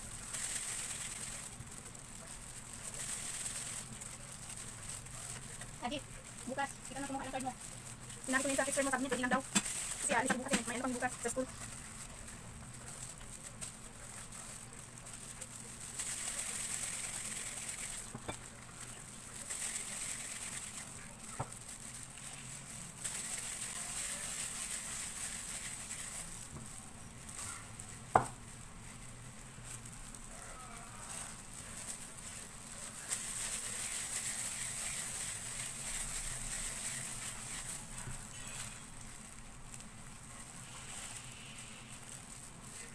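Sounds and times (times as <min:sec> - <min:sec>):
plastic gloves crinkling: 0:00.0 - 0:42.9.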